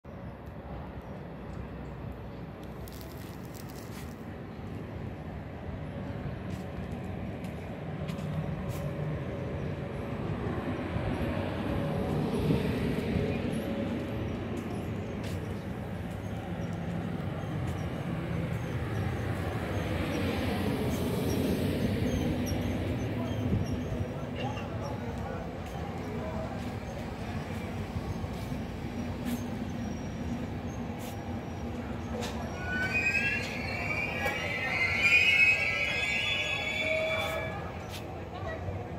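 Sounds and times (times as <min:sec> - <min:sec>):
train rumbling: 0:00.1 - 0:38.9.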